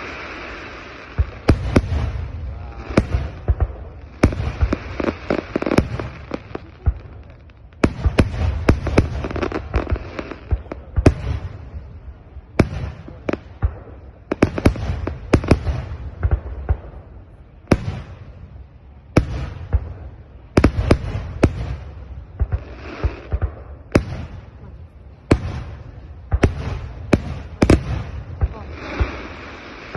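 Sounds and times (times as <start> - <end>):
fireworks bursting with sharp bangs: 0.0 - 29.9.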